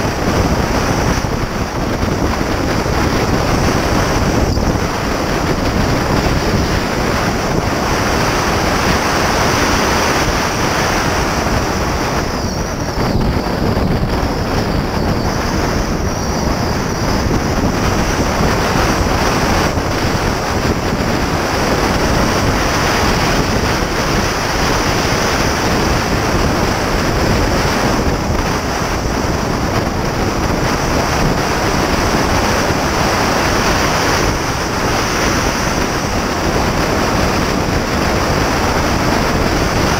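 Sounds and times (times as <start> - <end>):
car wind and road noise: 0.0 - 39.9
wind buffeting microphone: 0.0 - 39.9.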